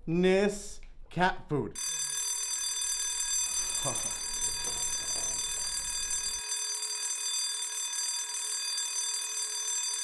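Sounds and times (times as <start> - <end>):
high-pitched electronic alarm tone: 1.8 - 10.0.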